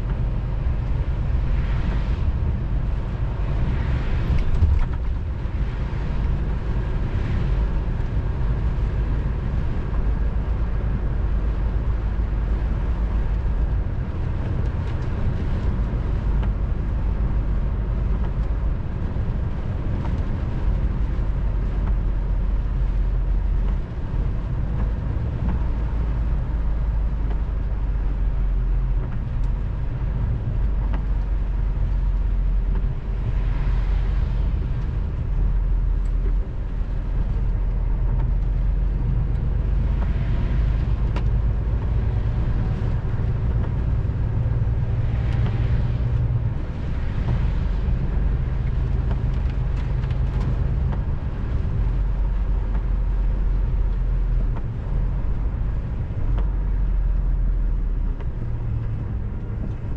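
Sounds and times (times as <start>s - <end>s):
tyres on wet road: 0.0s - 59.9s.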